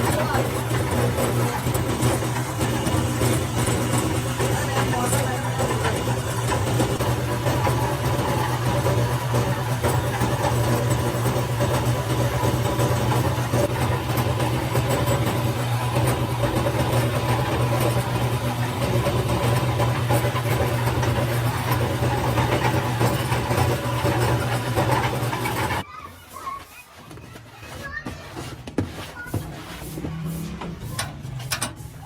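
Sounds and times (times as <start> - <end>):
factory machinery humming: 0.0 - 25.8.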